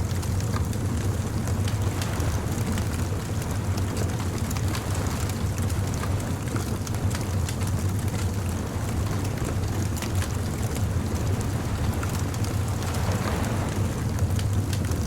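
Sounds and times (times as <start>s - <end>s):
bonfire crackling and popping: 0.0s - 15.0s
surf rumbling: 0.0s - 15.0s
wind: 0.0s - 15.0s.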